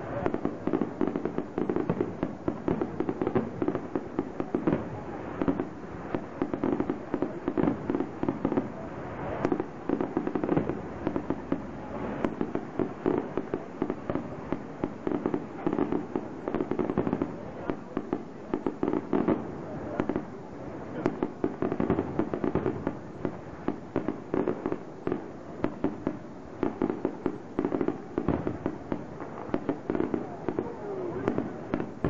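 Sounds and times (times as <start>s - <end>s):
firework bursts and crackling: 0.0s - 32.0s.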